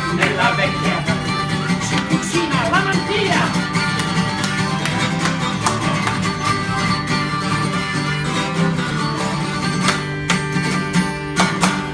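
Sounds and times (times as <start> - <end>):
acoustic guitar blues strumming: 0.0 - 11.9.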